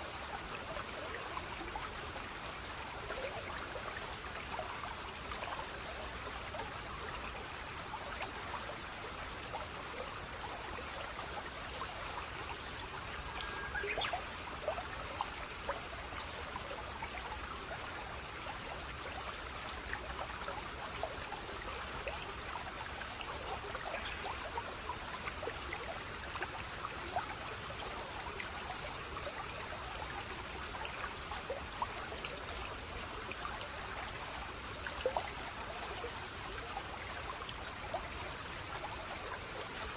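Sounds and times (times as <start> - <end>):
small stream babbling: 0.0 - 39.9
water splashes and drips: 0.0 - 39.9.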